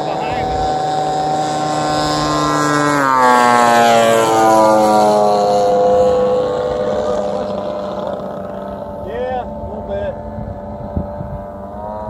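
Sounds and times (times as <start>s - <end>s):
model airplane engines passing: 0.0s - 12.0s.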